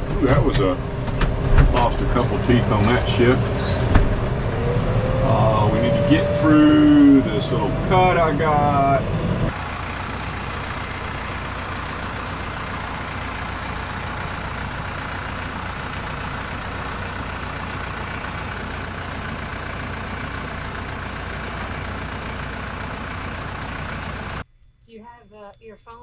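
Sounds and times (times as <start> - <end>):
vehicle engine low drone: 0.0 - 25.2.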